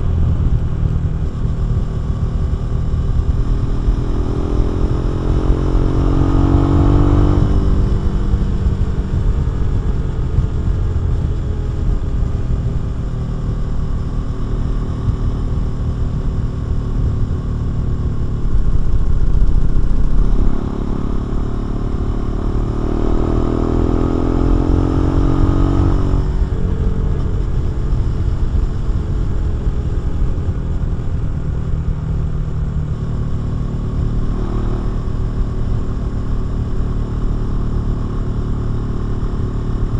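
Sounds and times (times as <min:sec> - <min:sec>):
loud low rumble: 0:00.0 - 0:39.9
motorcycle engine revving: 0:00.0 - 0:39.9.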